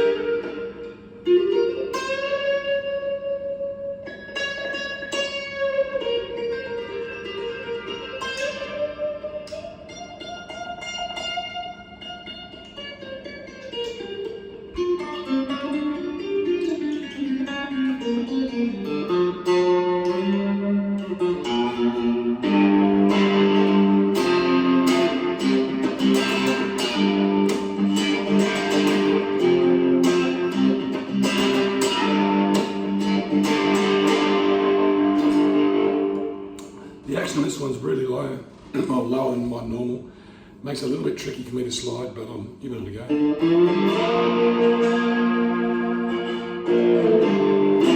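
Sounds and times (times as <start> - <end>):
electric guitar playing: 0.0 - 47.9.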